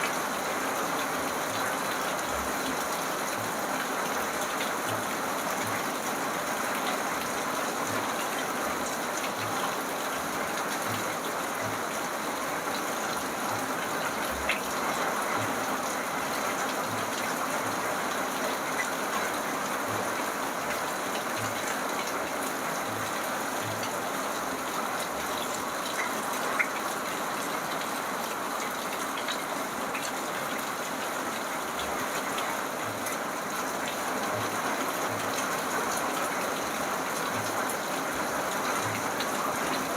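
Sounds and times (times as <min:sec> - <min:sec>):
sharp drips: 0:00.0 - 0:39.9
steady rain hiss: 0:00.0 - 0:39.9.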